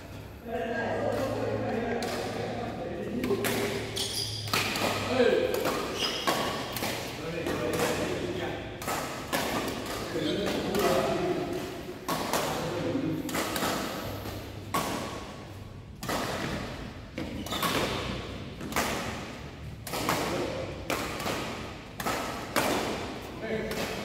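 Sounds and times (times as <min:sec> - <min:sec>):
rackets hitting shuttlecocks: 0:00.9 - 0:24.0.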